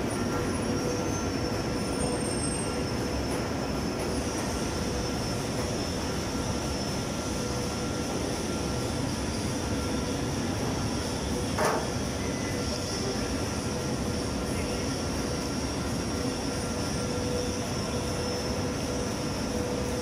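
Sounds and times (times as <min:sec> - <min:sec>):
machine drone with faint whines: 0:00.0 - 0:20.0.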